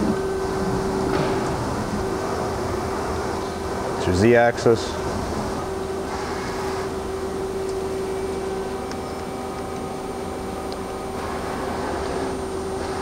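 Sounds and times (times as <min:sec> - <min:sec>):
lathe machine hum and whine: 0:00.0 - 0:13.0.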